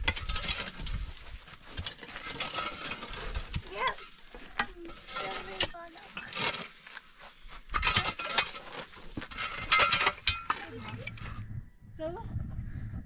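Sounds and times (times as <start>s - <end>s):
pick striking stony ground: 0.0s - 11.4s
soil and stones scraping: 0.0s - 11.5s.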